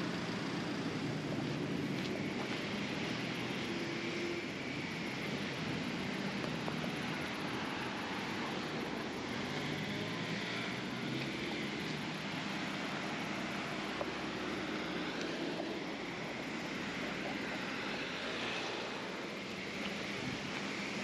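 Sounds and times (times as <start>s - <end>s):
engine drone: 0.0s - 21.0s
outdoor noise: 0.0s - 21.0s.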